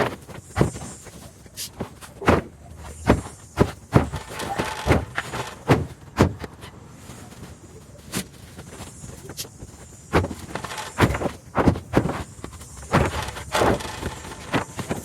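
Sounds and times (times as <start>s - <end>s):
sharp knocks and thuds: 0.0s - 6.6s, 8.1s - 15.0s.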